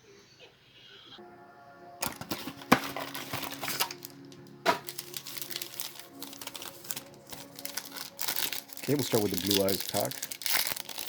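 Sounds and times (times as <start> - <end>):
soft background music: 1.2 - 11.0
plastic wrap and cardboard crinkling: 2.0 - 11.0.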